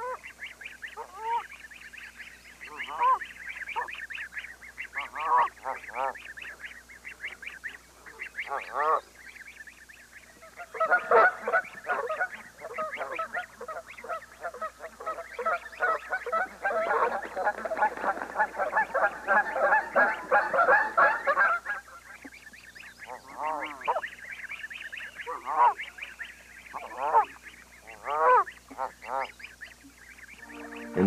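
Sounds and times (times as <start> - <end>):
geese honking: 0.0 - 31.0
goslings peeping: 0.0 - 31.0.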